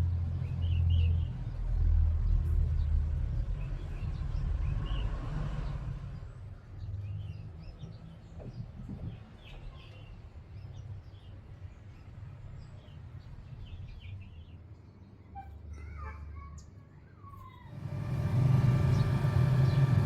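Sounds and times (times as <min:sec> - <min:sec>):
small birds chirping: 0:00.3 - 0:20.0.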